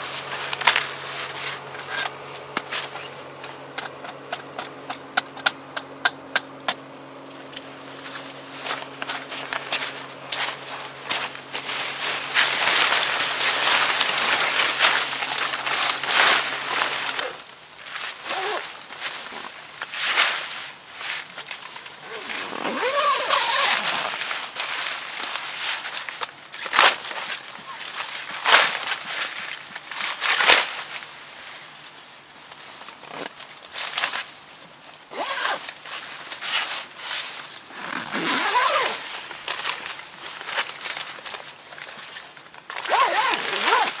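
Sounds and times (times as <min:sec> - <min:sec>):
loud rustling and crunching: 0:00.0 - 0:44.0
low steady hum: 0:00.0 - 0:44.0.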